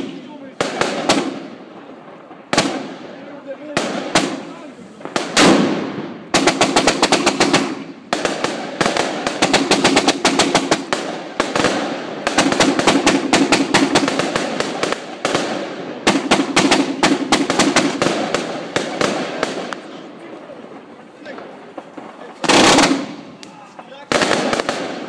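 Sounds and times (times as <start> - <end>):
firework cake cracking: 0.0 - 25.0.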